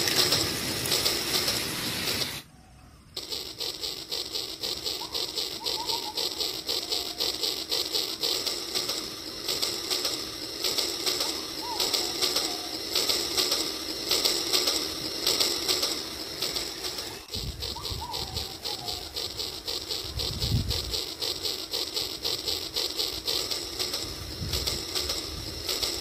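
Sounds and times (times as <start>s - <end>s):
electronic toy train chugging: 0.0s - 26.0s.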